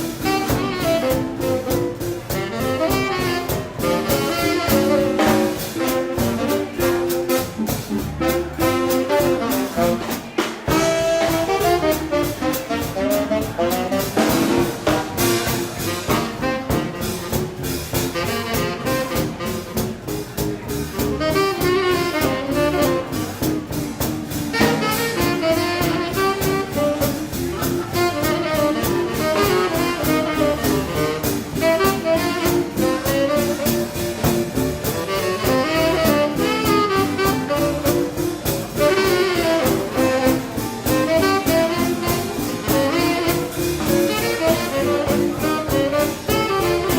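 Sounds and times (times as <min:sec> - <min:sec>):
driving drum beat: 0:00.0 - 0:46.9
saxophone and brass horns: 0:00.0 - 0:46.9.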